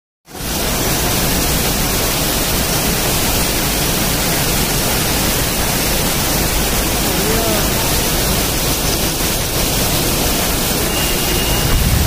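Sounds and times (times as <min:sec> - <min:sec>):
heavy rain: 0:00.3 - 0:12.0
water pouring off roof: 0:00.3 - 0:12.0.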